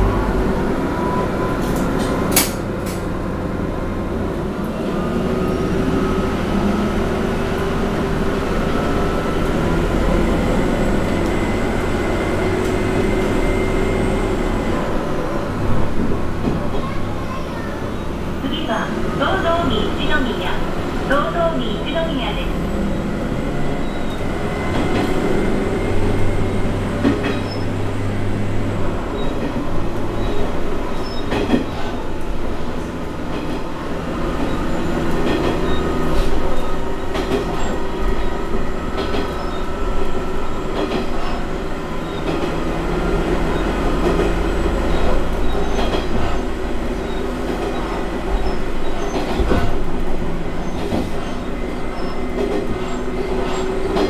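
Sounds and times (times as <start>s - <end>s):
railcar engine and wheels drone: 0.0s - 54.0s.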